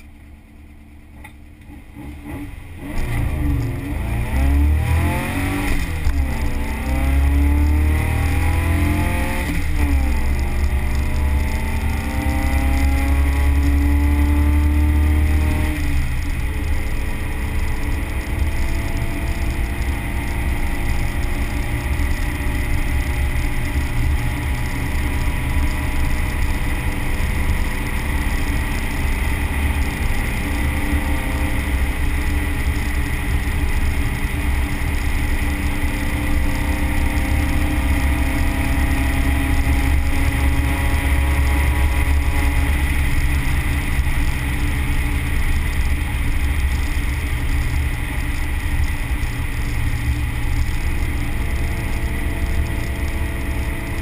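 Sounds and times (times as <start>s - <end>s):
air-cooled car engine cruising: 0.0s - 54.0s.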